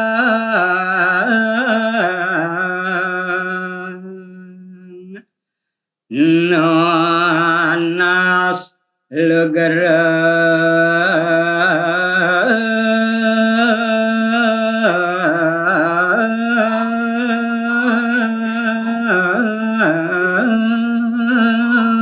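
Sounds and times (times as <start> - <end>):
man singing unaccompanied: 0.0 - 5.3, 6.1 - 22.0.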